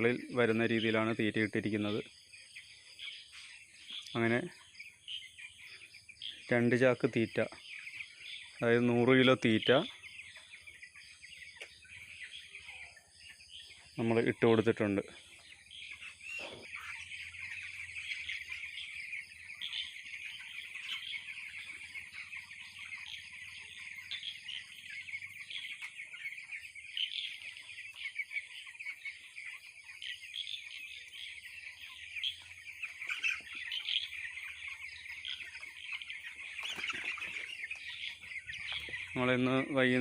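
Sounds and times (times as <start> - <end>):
chicks peeping and cheeping: 0.0 - 40.0.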